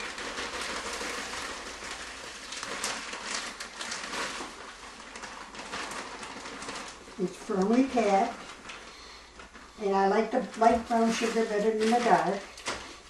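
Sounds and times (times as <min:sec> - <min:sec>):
sugar rustling in paper bag: 0:00.0 - 0:13.0.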